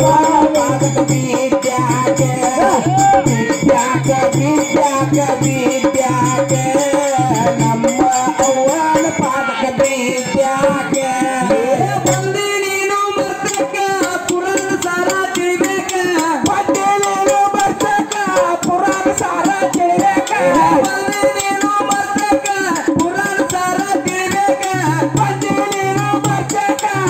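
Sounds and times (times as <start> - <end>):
barrel drum beaten by hand: 0.0 - 27.0
men singing through microphone: 0.0 - 27.0.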